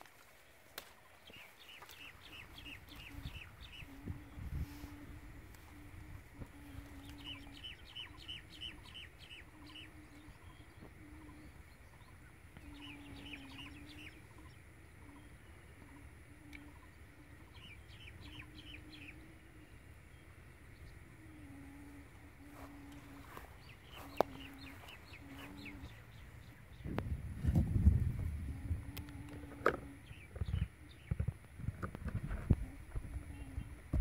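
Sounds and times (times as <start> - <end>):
small bird calling: 0.0 - 27.2, 27.9 - 31.5, 32.1 - 34.0
faint low hum: 0.0 - 34.0.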